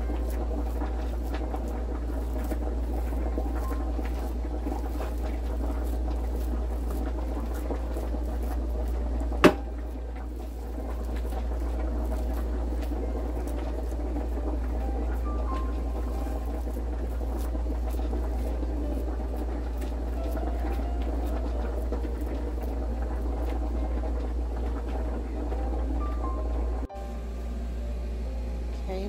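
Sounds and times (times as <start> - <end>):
steady low hum: 0.0 - 29.0
hand squishing raw meat: 0.1 - 23.6.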